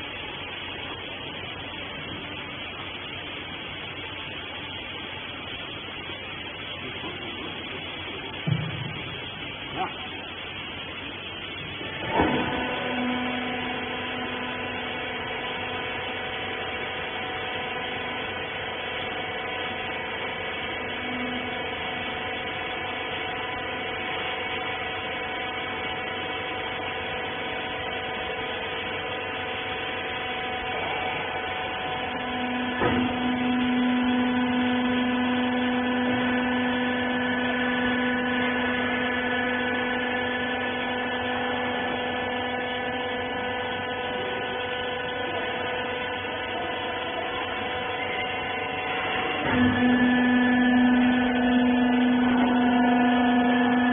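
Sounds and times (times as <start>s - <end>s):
hydraulic pump motor humming: 0.0s - 53.9s.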